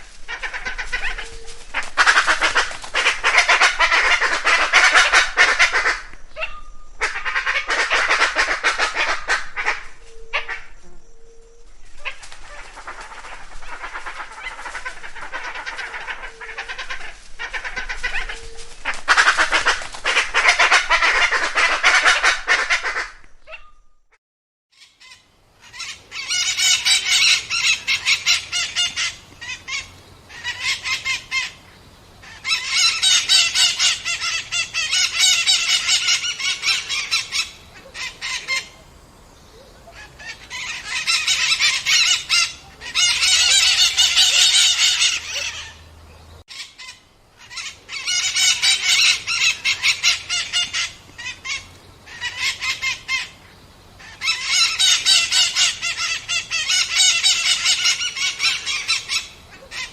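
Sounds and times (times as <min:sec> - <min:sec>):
raucous bird calls: 0:00.0 - 0:24.0, 0:24.7 - 0:59.9.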